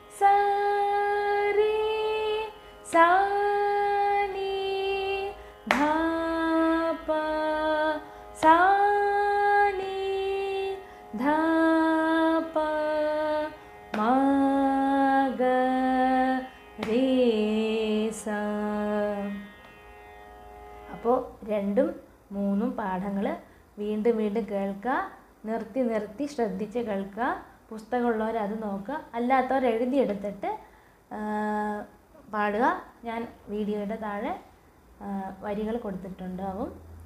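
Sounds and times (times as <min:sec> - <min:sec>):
woman singing vocal exercise: 0:00.0 - 0:19.4, 0:21.0 - 0:34.4.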